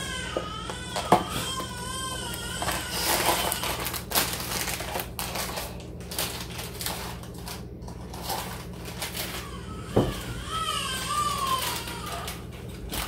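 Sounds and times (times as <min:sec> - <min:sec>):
packaging crinkling: 0:00.1 - 0:13.0.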